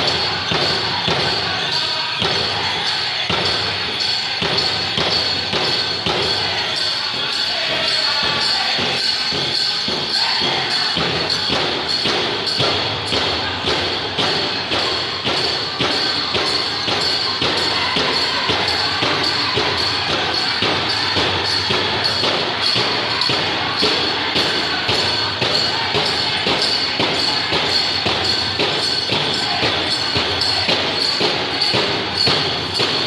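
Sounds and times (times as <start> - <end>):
big drum steady beat: 0.0 - 33.0
high singing voices: 0.0 - 33.0.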